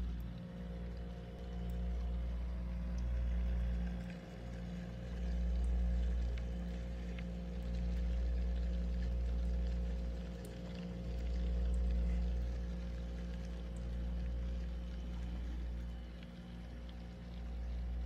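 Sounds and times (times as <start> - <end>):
humidifier electrical hum: 0.0 - 18.0
faint ticks: 2.9 - 17.9.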